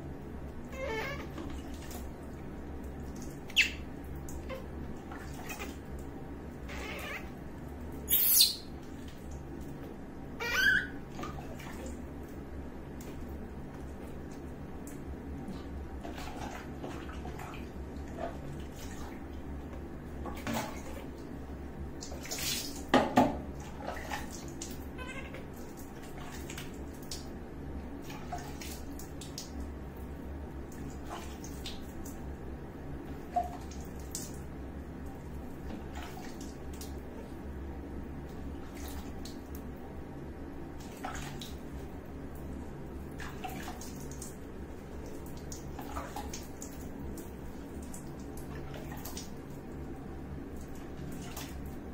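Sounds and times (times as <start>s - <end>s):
water splashing and dripping: 0.4s - 10.0s, 10.8s - 32.4s, 33.0s - 37.5s, 38.2s - 39.9s, 40.7s - 51.9s.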